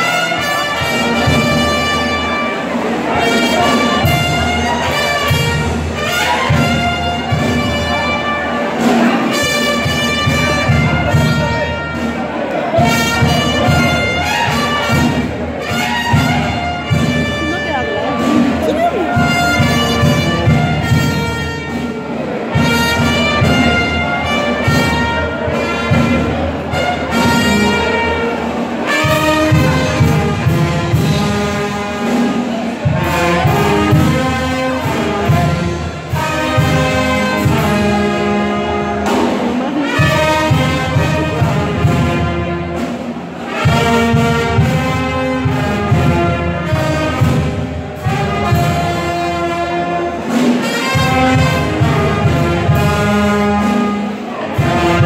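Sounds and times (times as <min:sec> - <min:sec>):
steady drum beat: 0:00.0 - 0:12.2, 0:12.8 - 0:55.0
trumpets and trombones playing: 0:00.0 - 0:55.0.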